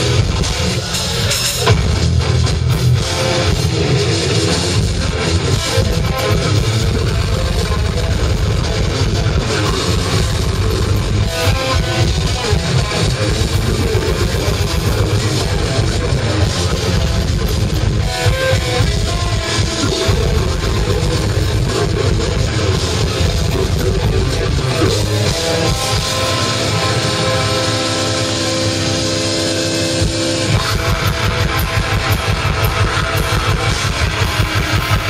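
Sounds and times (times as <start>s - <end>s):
bass guitar: 0.0s - 35.0s
distorted electric guitars: 0.0s - 35.0s
fast drumming: 0.0s - 35.0s
harsh vocals: 0.0s - 35.0s.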